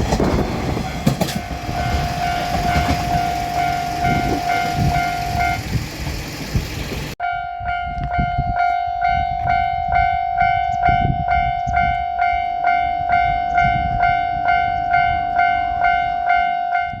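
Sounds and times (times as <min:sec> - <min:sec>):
diesel train low rumble: 0:00.0 - 0:17.0
level-crossing warning bell ringing: 0:00.8 - 0:17.0.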